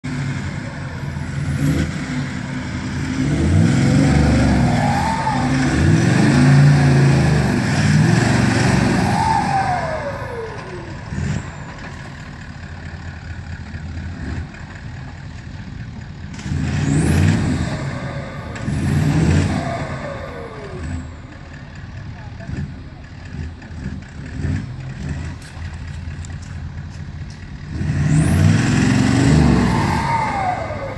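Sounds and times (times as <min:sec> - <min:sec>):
off-road engine revving in mud: 0:00.0 - 0:30.9.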